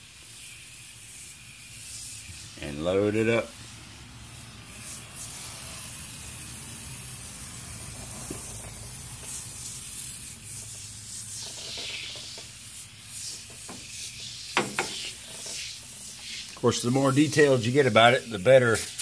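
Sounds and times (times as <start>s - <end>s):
aerosol can spraying hiss: 0.0s - 19.0s.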